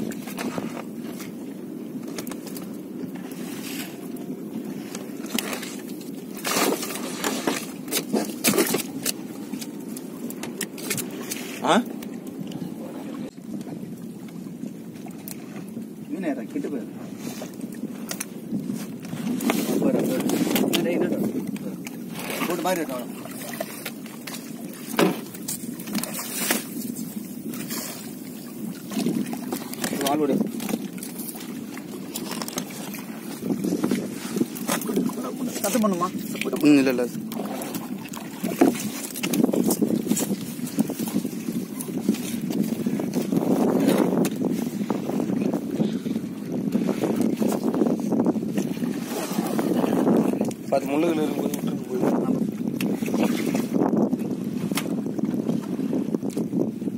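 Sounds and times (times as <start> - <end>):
boat engine low rumble: 0.0 - 56.9
water splashing against hull: 0.0 - 56.9.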